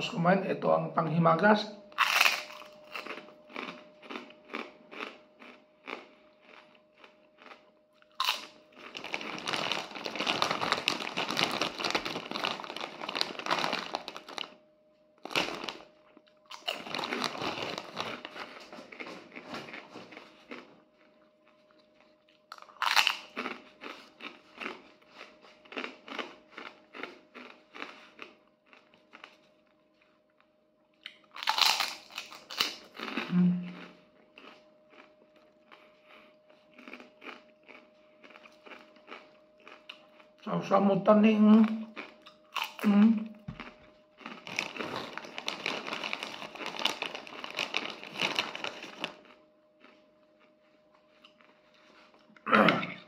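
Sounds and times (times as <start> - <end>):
person crunching a snack: 2.0 - 14.6, 15.2 - 30.2, 31.0 - 40.4, 41.8 - 42.9, 43.6 - 52.4.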